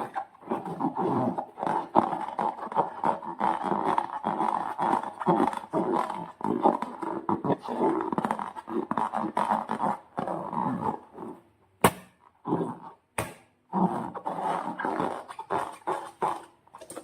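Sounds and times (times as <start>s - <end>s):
wet slime squelches: 0.0s - 17.0s.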